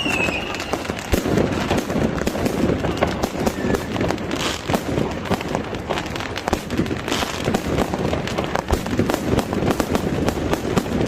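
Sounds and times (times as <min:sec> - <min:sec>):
firecrackers cracking and popping: 0:00.0 - 0:11.0.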